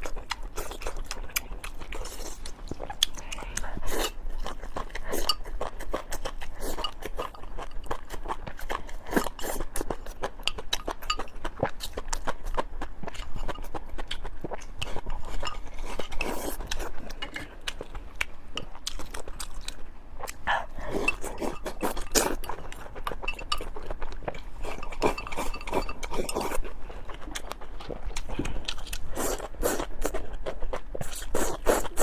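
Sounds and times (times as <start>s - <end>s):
chewing food: 0.0s - 32.0s.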